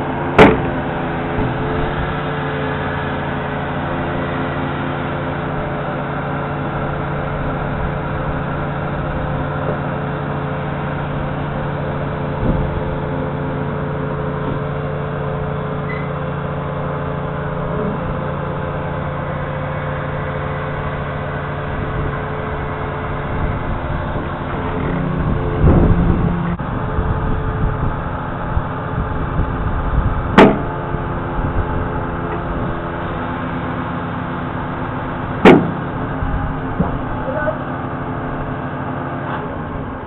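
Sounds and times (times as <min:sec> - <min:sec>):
lorry engine running: 0:00.0 - 0:40.0.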